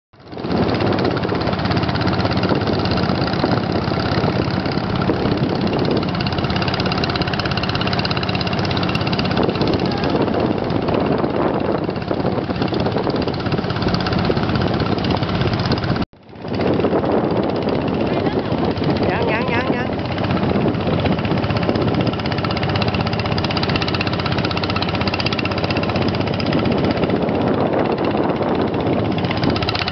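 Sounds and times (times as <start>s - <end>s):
small engine running: 0.2s - 29.9s.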